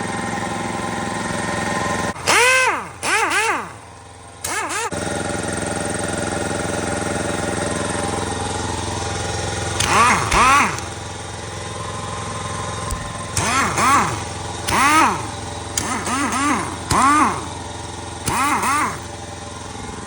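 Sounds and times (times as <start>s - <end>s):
mechanical drone: 0.0s - 5.7s, 7.9s - 20.0s
air tool running: 0.0s - 20.0s.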